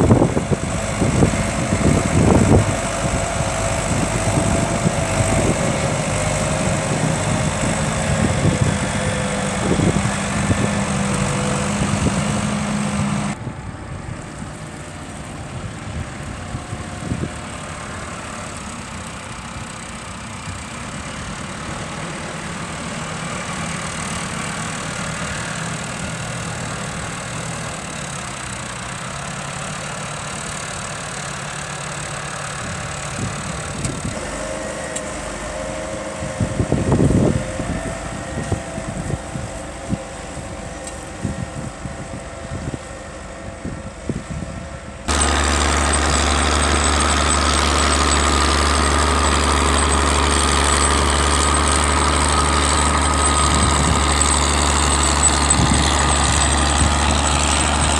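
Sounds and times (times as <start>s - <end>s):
deep engine hum close by: 0.0s - 57.9s
tractor engines running: 0.0s - 57.9s.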